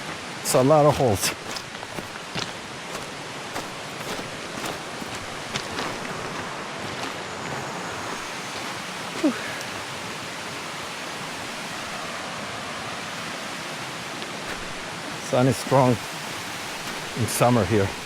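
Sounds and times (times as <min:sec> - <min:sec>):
rushing stream: 0:00.0 - 0:18.0.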